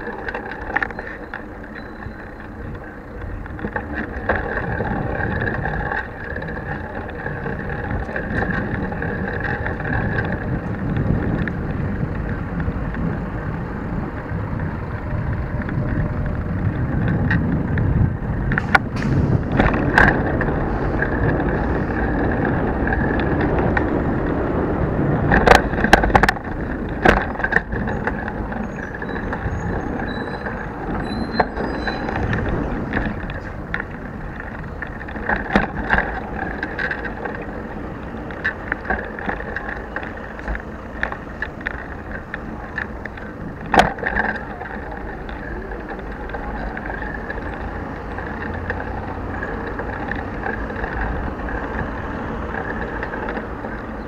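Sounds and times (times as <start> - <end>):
tyres and wind rumble: 0.0 - 54.0.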